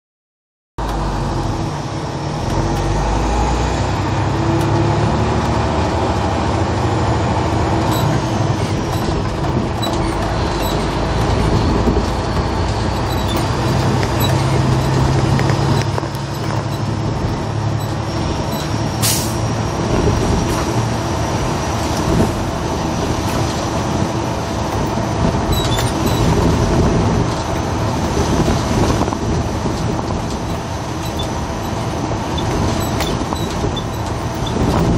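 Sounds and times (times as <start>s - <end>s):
bus engine and road noise: 0.8s - 34.9s.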